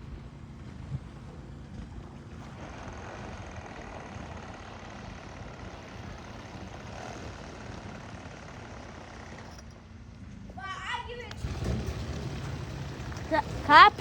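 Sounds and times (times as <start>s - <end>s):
small trimmer engine running: 1.6s - 10.5s, 11.3s - 14.0s.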